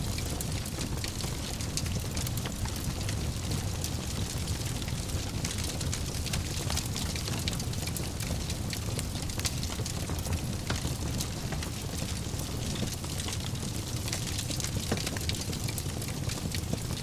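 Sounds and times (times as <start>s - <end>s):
fire crackling and popping: 0.0s - 17.0s
fire rumbling in fireplace: 0.0s - 17.0s.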